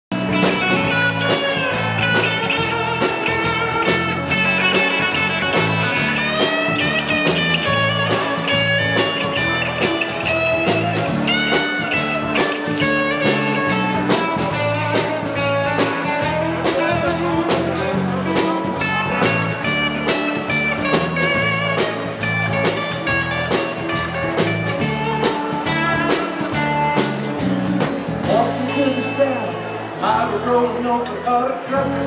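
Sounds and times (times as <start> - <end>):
guitar-led instrumental music: 0.1 - 32.0.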